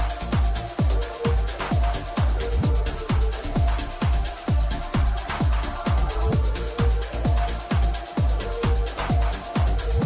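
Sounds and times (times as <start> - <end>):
kick drum: 0.0 - 10.0.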